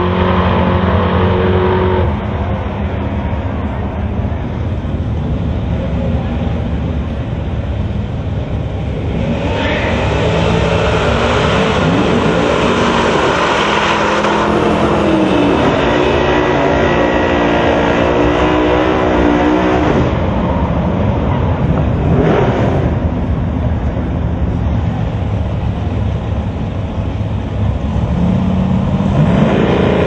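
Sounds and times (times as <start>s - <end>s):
drag racing cars accelerating: 0.0s - 30.0s.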